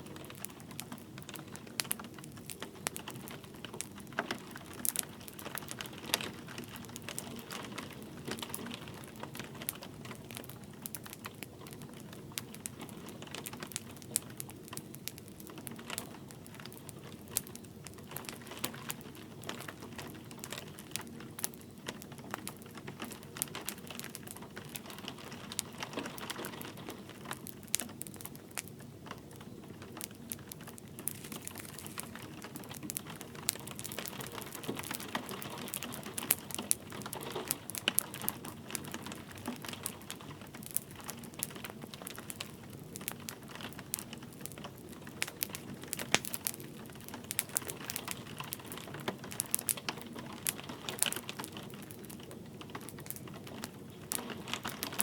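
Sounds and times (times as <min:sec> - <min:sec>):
light rain hissing: 0:00.0 - 0:55.0
wood fire crackling: 0:00.0 - 0:55.0.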